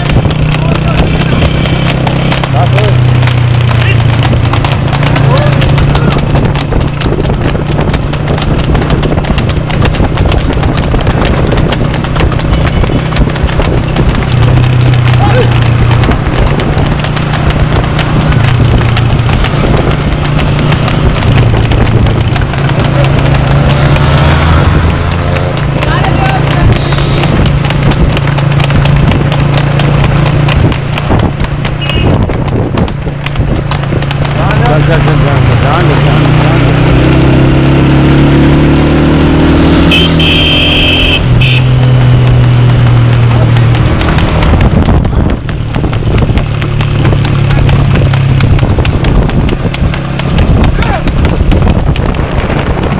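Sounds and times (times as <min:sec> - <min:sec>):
horse hooves on asphalt: 0:00.0 - 0:52.9.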